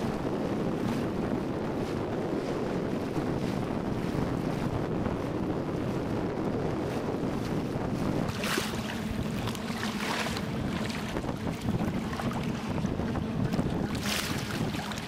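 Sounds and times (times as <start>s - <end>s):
choppy water rushing: 0.0s - 15.0s
waves slapping against hull: 0.0s - 15.0s
wind buffeting microphone: 0.0s - 15.0s.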